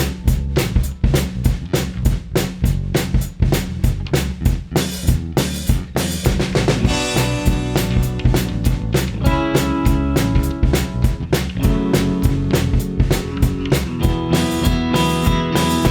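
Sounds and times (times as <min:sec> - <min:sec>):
drum kit beat: 0:00.0 - 0:15.9
sustained low notes: 0:00.0 - 0:15.9.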